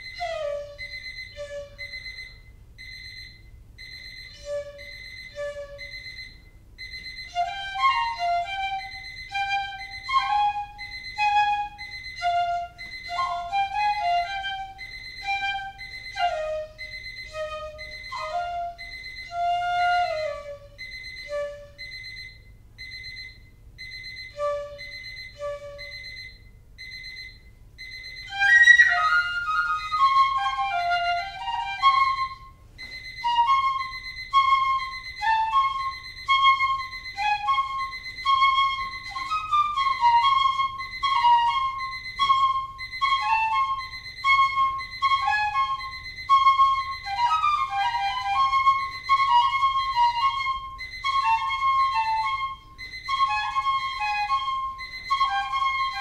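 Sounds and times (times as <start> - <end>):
piccolo playing notes: 0.0 - 3.2, 3.8 - 22.2, 24.2 - 26.3, 28.0 - 56.0
electronic alarm clock beeping: 0.0 - 56.0.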